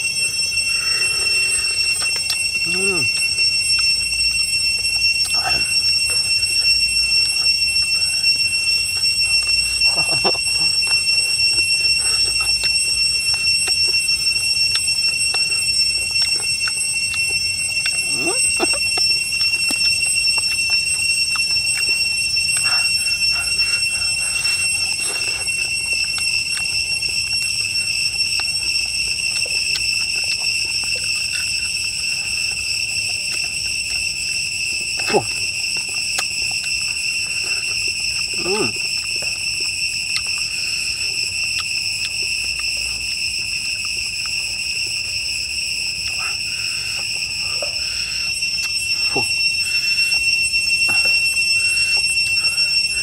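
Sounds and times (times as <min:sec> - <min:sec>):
insects calling: 0:00.0 - 0:53.0.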